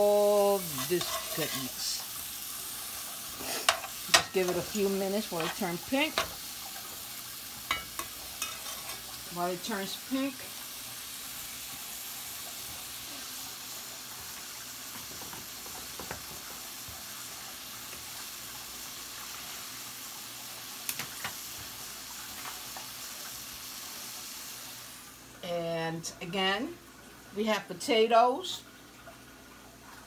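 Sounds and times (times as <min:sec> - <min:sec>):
shrimp sizzling in sauce: 0:00.0 - 0:25.6.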